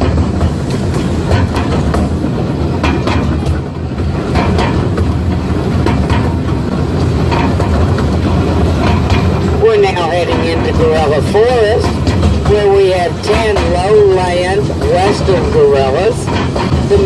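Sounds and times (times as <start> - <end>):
train rumbling: 0.0 - 17.0
wheels clattering on track: 0.0 - 17.0.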